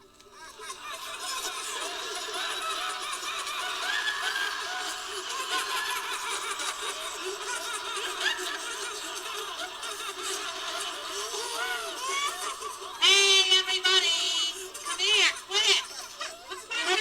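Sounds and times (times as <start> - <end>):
group of people laughing: 0.0 - 17.0.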